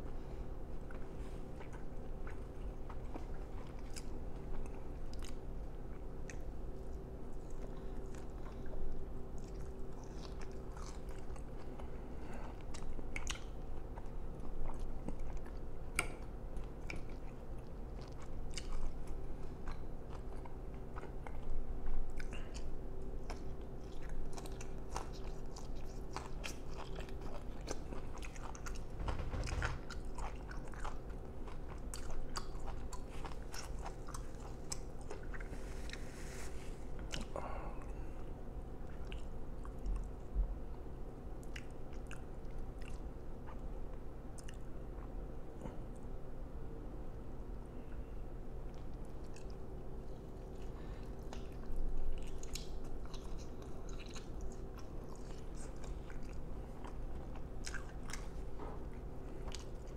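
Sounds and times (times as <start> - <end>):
faint steady hum: 0.0 - 59.9
chewing and biting food: 0.8 - 36.1, 38.8 - 40.2, 41.4 - 45.2, 48.6 - 59.9.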